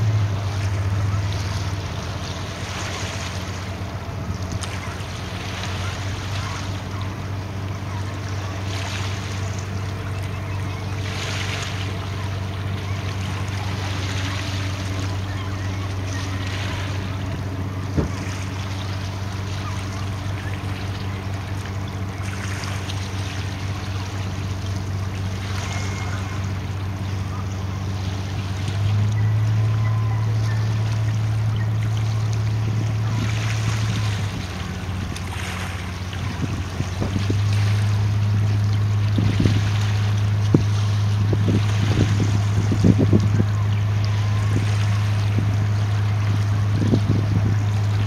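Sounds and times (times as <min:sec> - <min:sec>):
ship engines droning: 0:00.0 - 0:48.0
water sloshing and splashing: 0:00.0 - 0:48.0.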